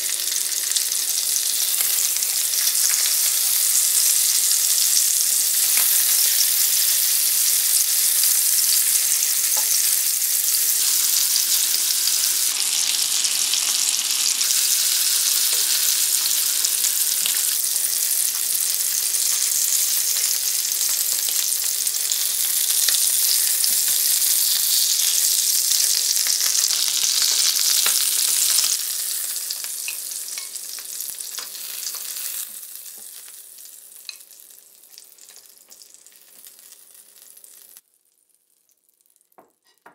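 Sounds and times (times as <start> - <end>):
fish sizzling in a frying pan: 0.0 - 39.4.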